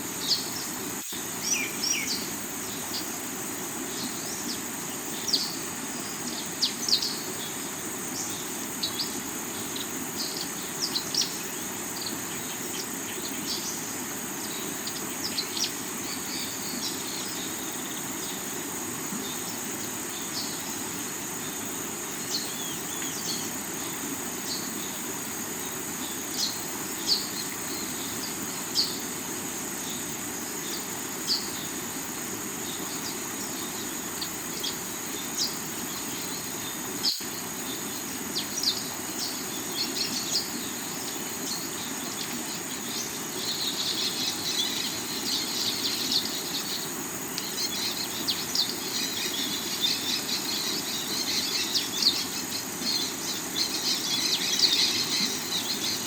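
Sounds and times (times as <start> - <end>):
insect chirring: 0.0 - 56.0.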